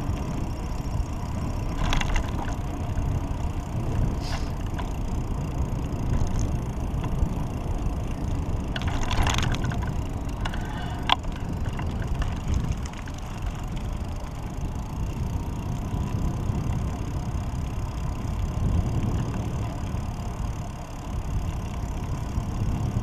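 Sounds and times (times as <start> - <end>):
bicycle clicks and rattles: 0.0 - 23.0
wind and road noise: 0.0 - 23.0.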